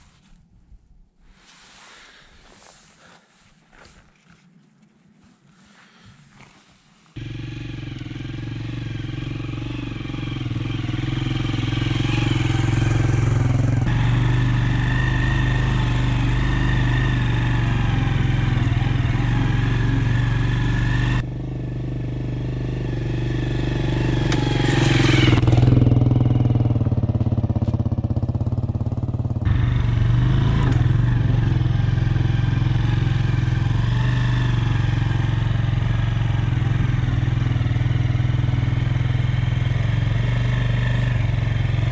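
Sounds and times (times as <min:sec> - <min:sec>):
motorcycle engine running: 0:07.2 - 0:41.9.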